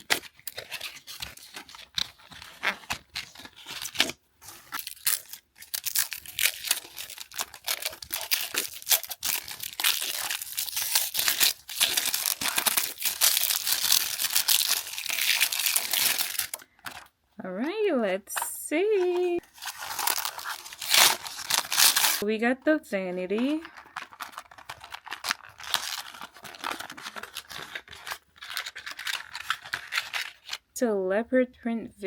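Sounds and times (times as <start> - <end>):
packaging torn and crinkled: 0.0 - 17.1, 19.0 - 22.2, 23.4 - 30.7.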